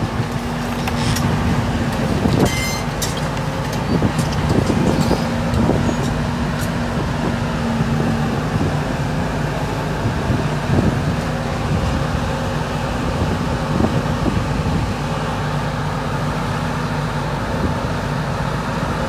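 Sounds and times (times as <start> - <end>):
excavator engine and hydraulic hum: 0.0 - 19.0.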